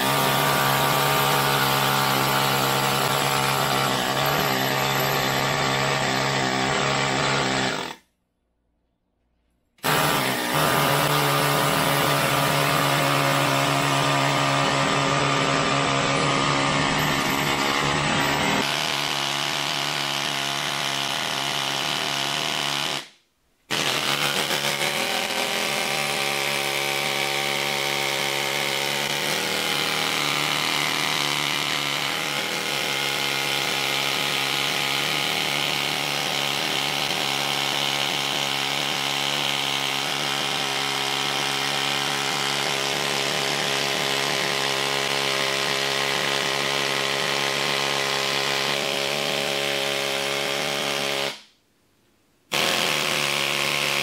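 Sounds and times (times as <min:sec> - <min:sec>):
pneumatic air hammer chattering: 0:00.0 - 0:08.0, 0:09.8 - 0:23.1, 0:23.7 - 0:51.4, 0:52.5 - 0:54.0.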